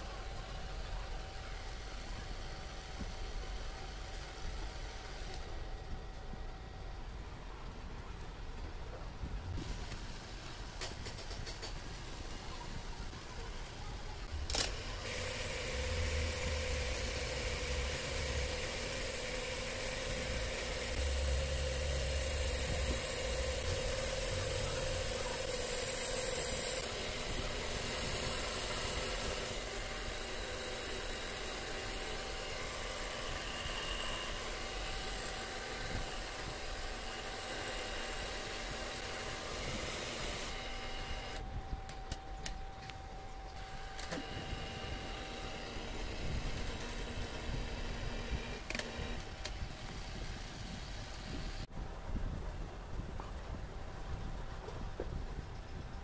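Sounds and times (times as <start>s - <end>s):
boring machine humming and hissing: 0.0s - 52.0s.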